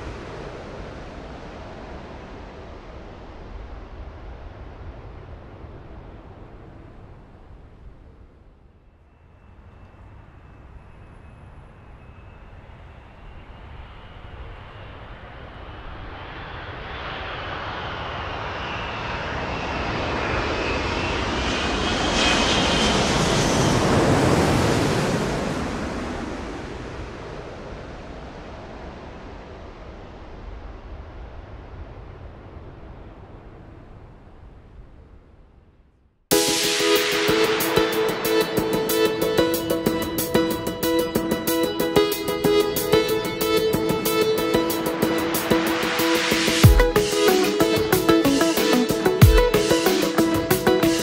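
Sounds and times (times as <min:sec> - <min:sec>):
jet engine rushing with whine: 0:00.0 - 0:35.1, 0:36.3 - 0:51.0.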